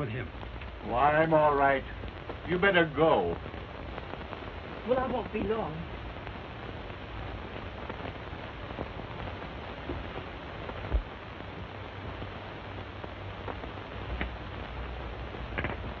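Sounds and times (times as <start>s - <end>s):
film soundtrack hiss and crackle: 0.0s - 16.0s.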